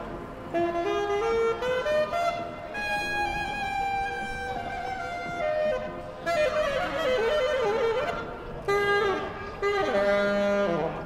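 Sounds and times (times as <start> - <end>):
bowed string instrument melody: 0.0 - 11.0.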